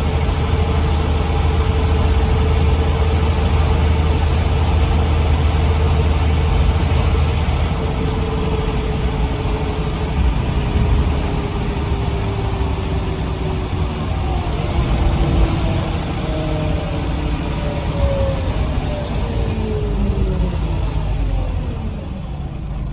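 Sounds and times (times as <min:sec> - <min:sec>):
bus engine drone: 0:00.0 - 0:22.9
steady whine falling in pitch: 0:00.0 - 0:22.9.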